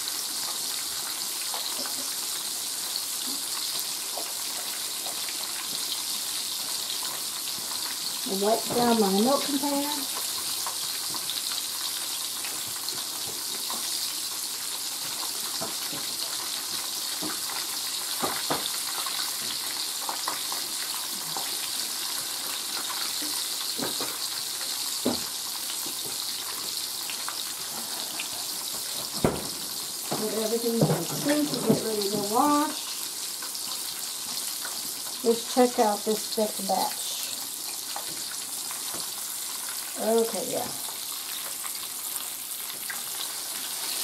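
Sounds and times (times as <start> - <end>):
meat sizzling in oil: 0.0 - 44.0.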